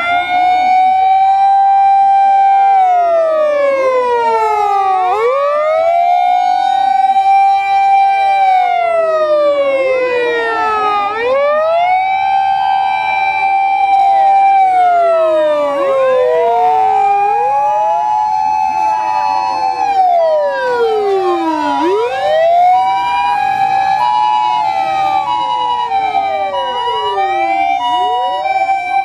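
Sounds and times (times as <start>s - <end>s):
fire engine sirens wailing: 0.0s - 29.0s.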